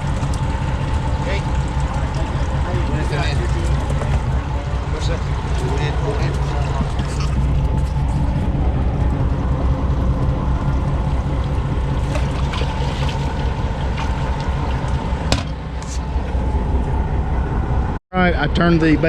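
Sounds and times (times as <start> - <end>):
water splashing along hull: 0.0 - 17.4
boat engine running: 0.0 - 19.0.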